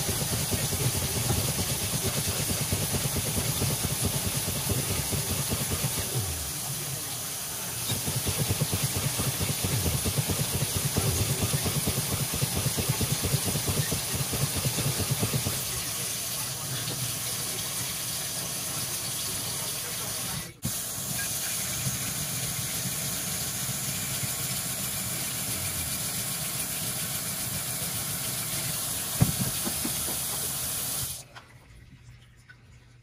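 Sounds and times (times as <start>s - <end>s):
tap water running into sink: 0.0s - 32.9s.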